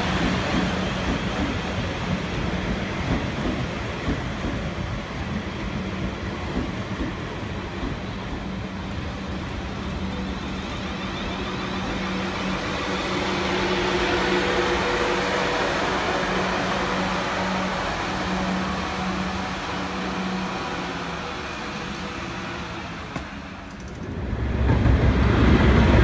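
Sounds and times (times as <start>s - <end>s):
train low hum: 0.0s - 26.0s.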